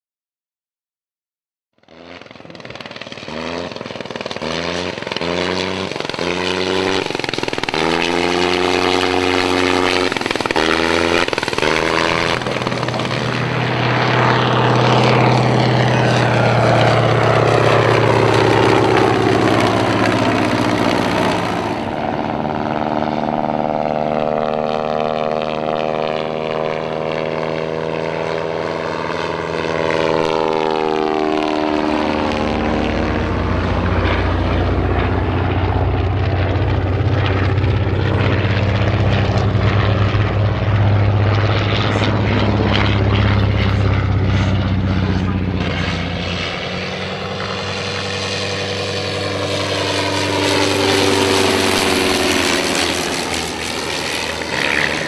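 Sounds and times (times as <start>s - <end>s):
aircraft flying past: 1.8s - 55.0s
engine note cutting in and out: 1.8s - 55.0s
propeller plane engines in flight: 1.8s - 55.0s.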